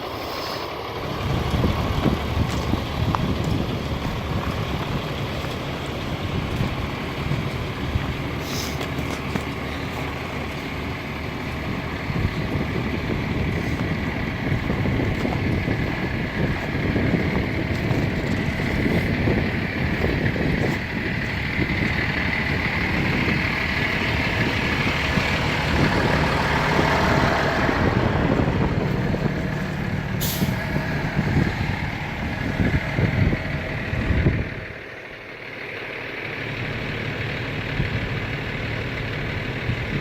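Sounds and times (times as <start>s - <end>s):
vacuum truck running: 0.0s - 40.0s.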